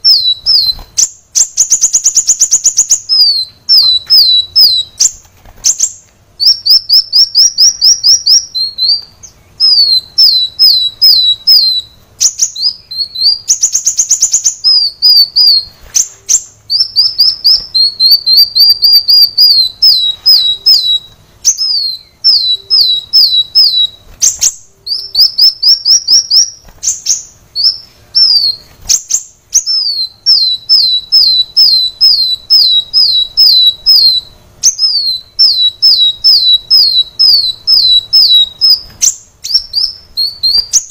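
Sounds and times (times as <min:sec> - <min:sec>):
buzzy bird trill: 0:00.0 - 0:40.9
sunbird singing high sharp notes: 0:00.0 - 0:40.9.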